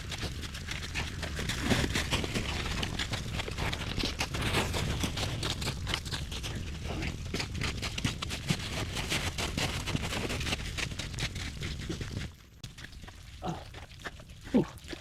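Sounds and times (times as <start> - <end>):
crunching and scraping in snow: 0.0 - 15.0.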